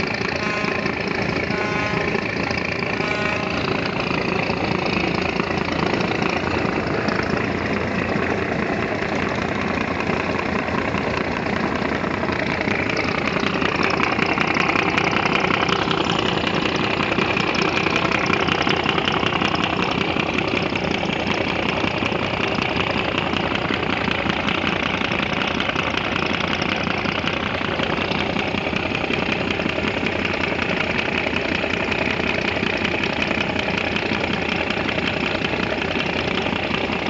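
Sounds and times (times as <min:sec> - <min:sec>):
boat engine drone: 0:00.0 - 0:37.0
propeller churning water: 0:00.0 - 0:37.0.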